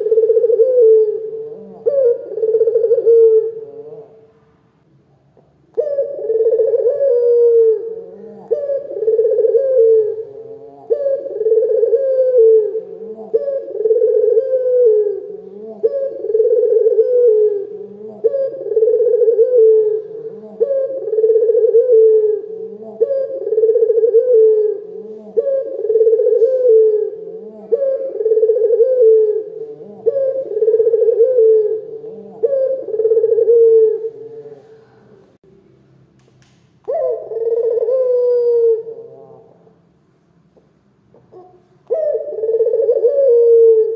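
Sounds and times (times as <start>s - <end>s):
dove cooing: 0.0s - 4.3s, 5.4s - 35.2s, 36.9s - 39.8s, 41.1s - 43.9s.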